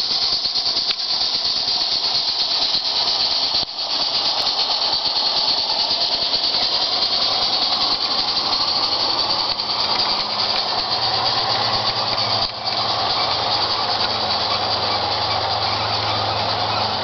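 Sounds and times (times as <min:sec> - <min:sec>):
model train wheels rolling on rails: 0:00.0 - 0:17.0.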